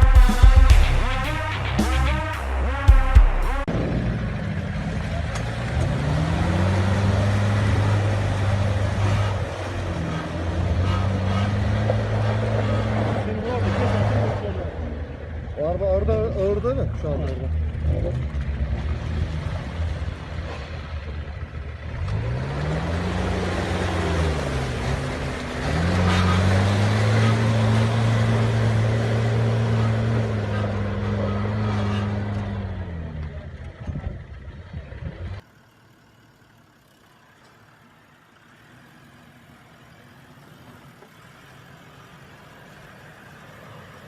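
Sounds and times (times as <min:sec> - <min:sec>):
vehicle engine revving: 0:00.0 - 0:35.5.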